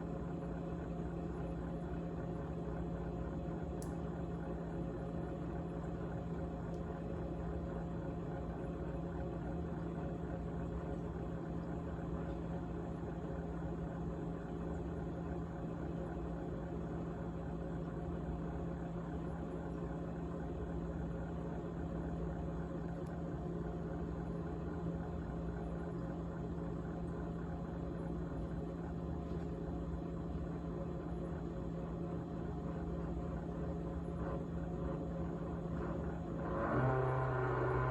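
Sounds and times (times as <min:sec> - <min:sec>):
refrigerator humming: 0:00.0 - 0:37.9.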